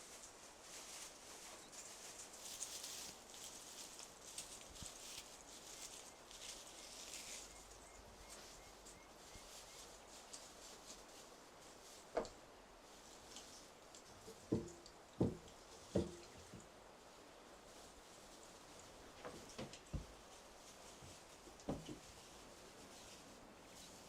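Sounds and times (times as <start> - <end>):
faint high rustle: 0.0 - 14.5, 15.4 - 24.0.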